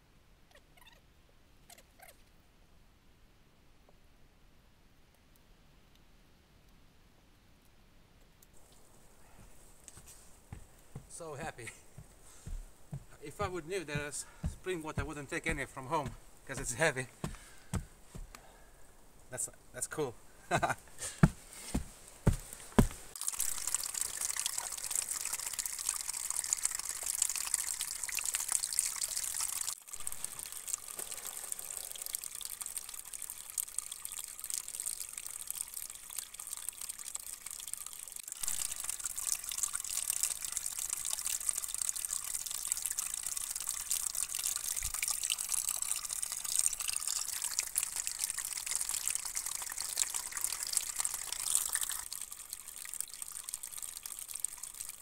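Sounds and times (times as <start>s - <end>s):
water splashing onto wooden boards: 8.6s - 18.6s, 19.4s - 55.0s.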